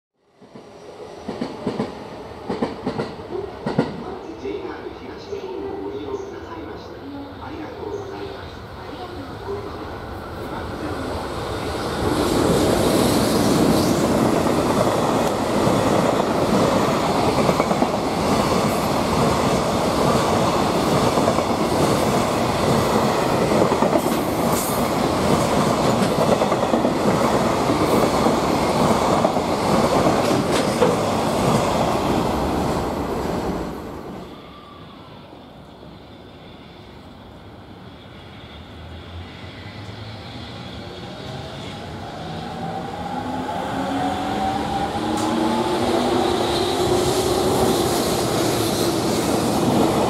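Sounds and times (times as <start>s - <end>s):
freight train passing: 0.2s - 50.0s.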